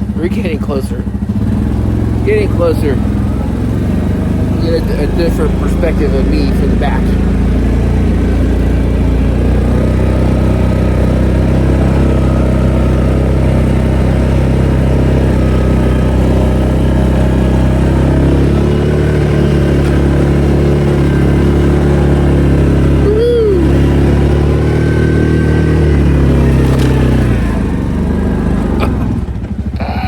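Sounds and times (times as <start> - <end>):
snowplow engine running: 0.0 - 30.0.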